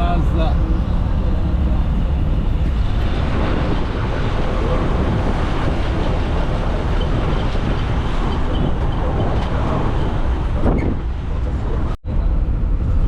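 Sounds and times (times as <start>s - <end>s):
road vehicle rumble: 0.0s - 13.0s
surrounding traffic: 0.0s - 13.0s.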